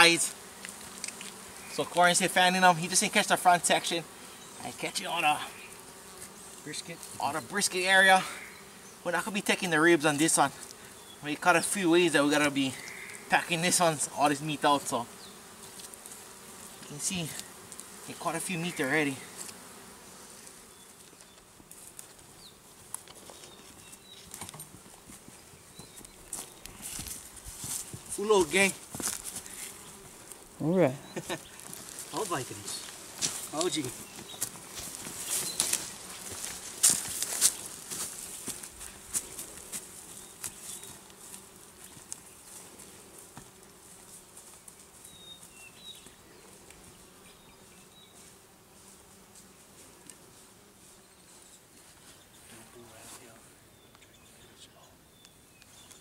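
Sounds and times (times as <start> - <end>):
flies buzzing: 0.0 - 56.0
footsteps in forest undergrowth: 0.3 - 2.3, 4.3 - 9.0, 10.1 - 14.2, 15.5 - 30.5, 31.1 - 53.5, 55.2 - 56.0.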